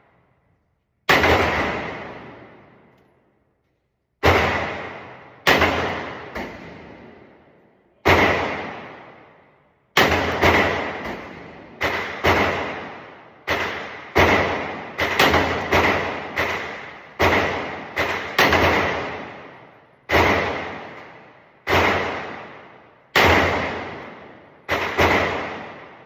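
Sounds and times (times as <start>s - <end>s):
gunshots with long echo: 1.0s - 3.0s, 4.2s - 26.0s.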